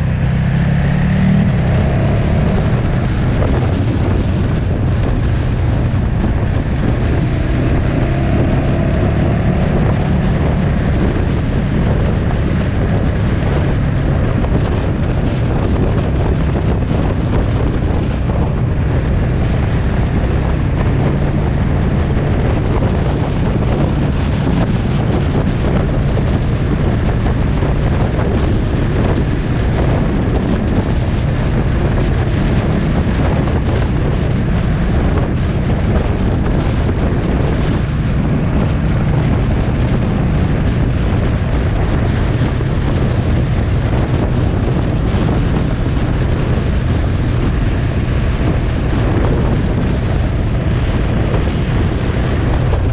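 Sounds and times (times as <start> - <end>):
motorcycle engine humming: 0.0 - 52.9
wind noise on microphone: 0.0 - 52.9.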